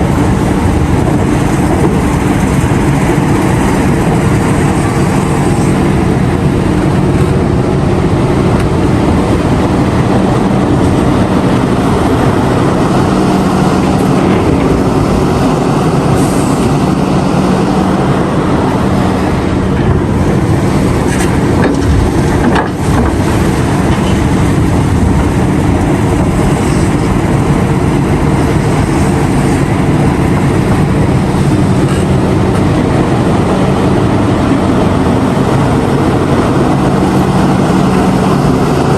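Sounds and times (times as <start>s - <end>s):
heavy diesel engines humming: 0.0s - 38.9s.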